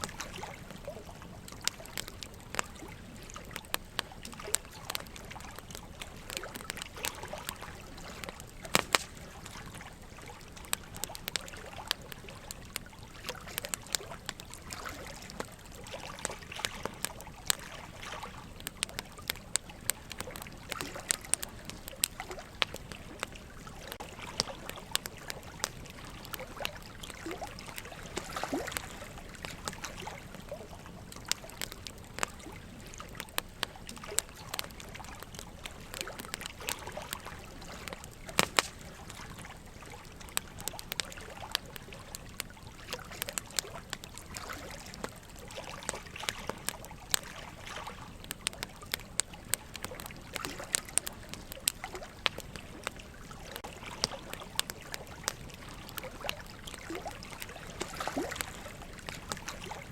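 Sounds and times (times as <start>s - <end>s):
burning logs crackling and popping: 0.0s - 59.9s
running water: 0.0s - 59.9s.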